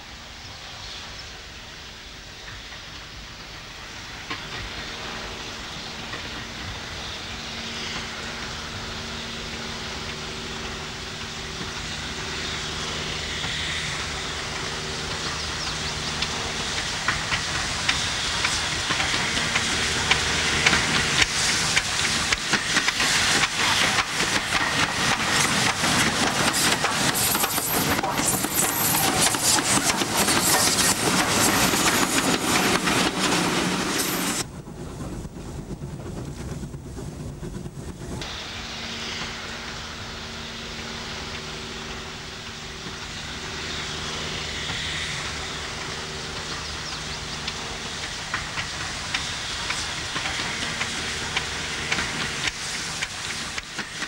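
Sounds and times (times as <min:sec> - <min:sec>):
steam train: 0:00.0 - 0:54.0
steam hissing: 0:02.4 - 0:34.5, 0:38.2 - 0:54.0.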